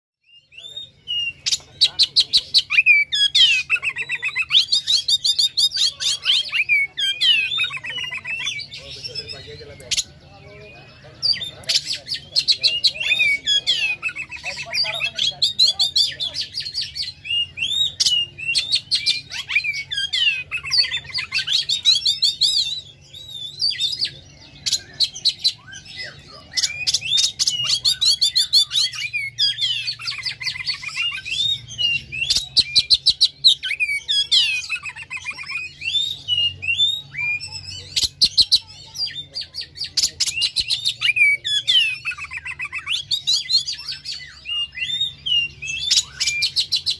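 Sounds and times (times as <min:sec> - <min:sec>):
bird singing whistled phrases: 0:00.2 - 0:46.9
harsh rattling bird notes: 0:01.0 - 0:46.9.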